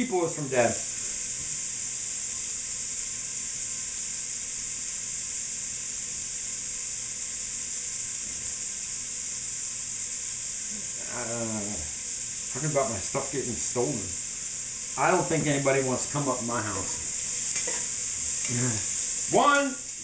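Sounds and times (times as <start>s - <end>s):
fat sizzling in a pot: 0.0s - 20.0s.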